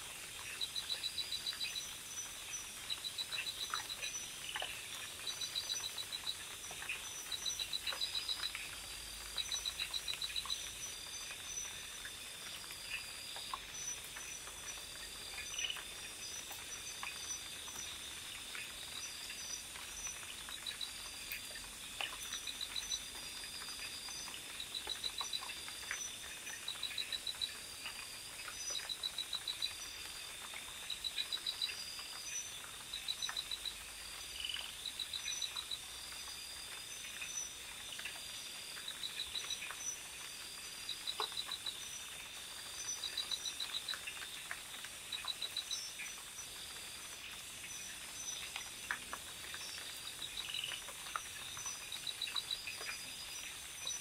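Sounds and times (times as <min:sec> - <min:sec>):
night insects chirping: 0:00.0 - 0:54.0.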